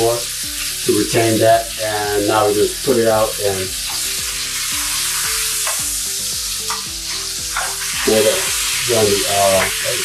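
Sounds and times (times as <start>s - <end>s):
steak sizzling in a pan: 0.0s - 10.0s.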